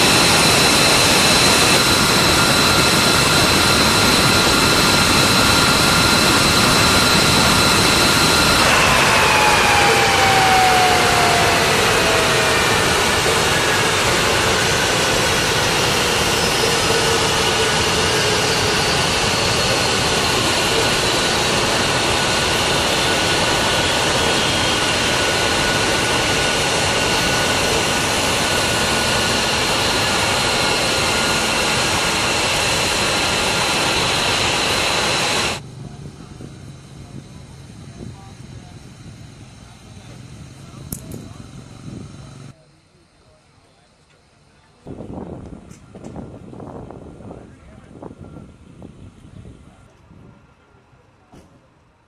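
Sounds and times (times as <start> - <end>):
jet engines roaring with high whine: 0.0 - 52.0.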